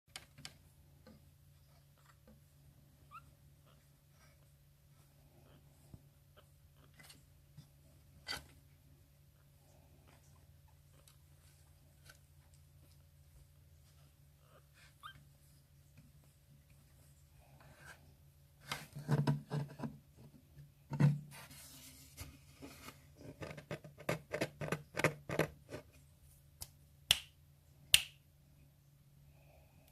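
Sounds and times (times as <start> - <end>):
rustling with clicks and knocks: 0.1 - 26.5
low room hum: 0.1 - 29.9.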